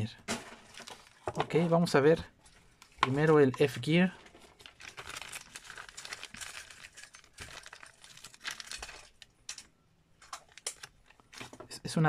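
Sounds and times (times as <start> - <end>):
plastic packaging crinkling: 0.3 - 1.7, 2.5 - 11.7.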